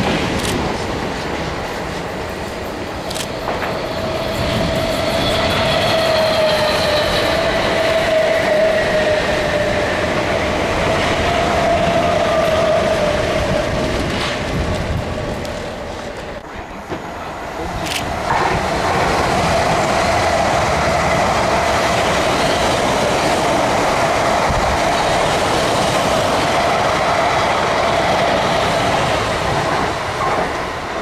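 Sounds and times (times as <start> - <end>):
electric train wheels on rails: 0.0 - 31.0
quieter train moving away: 0.0 - 31.0.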